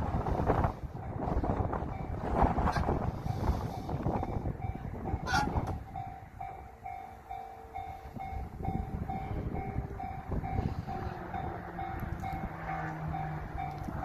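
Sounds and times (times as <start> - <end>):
passing train rumble: 0.0 - 14.0.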